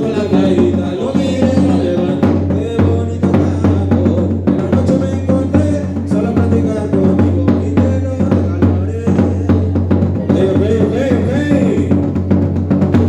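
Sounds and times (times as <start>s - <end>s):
drum kit beat: 0.0s - 13.0s
sustained bass: 0.0s - 13.0s.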